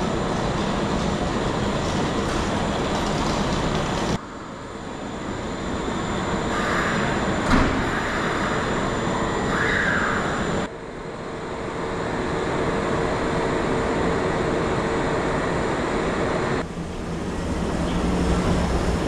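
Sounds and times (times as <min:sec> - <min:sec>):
train running hum: 0:00.0 - 0:19.0.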